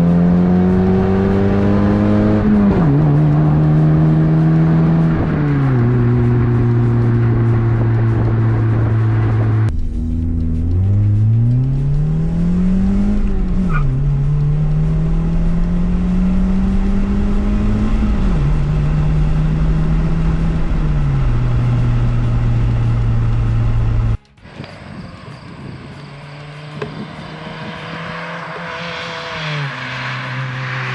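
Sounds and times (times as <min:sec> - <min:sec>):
loud car exhaust accelerating: 0:00.0 - 0:30.9.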